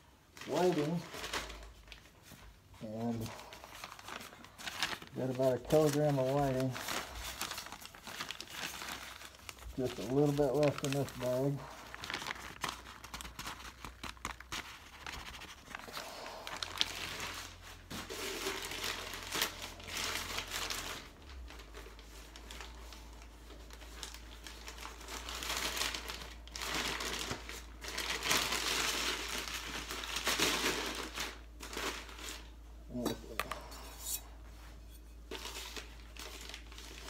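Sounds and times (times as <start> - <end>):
paper bag crinkling and rustling: 0.0 - 33.8, 34.5 - 37.0.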